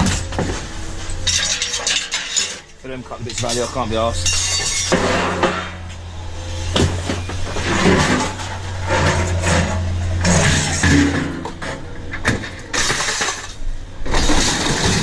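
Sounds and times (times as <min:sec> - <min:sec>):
steady low hum: 0:00.0 - 0:14.2
scrap metal clattering: 0:00.0 - 0:15.0.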